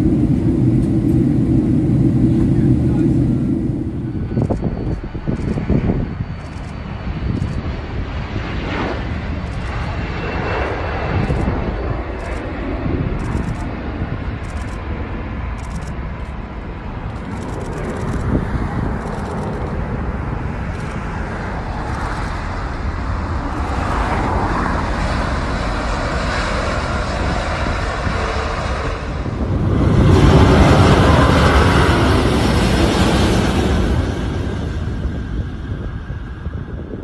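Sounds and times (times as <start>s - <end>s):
jet airliner engines rushing: 0.0s - 37.0s
louder jet engine noise: 0.0s - 37.0s.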